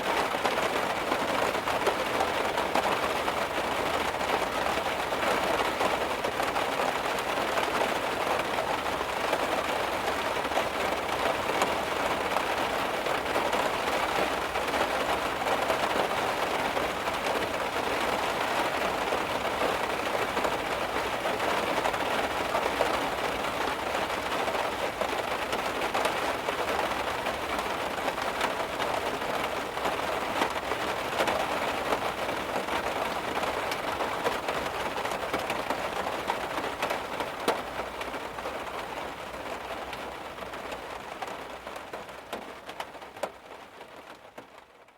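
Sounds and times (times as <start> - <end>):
heavy rain on a car: 0.0 - 44.9.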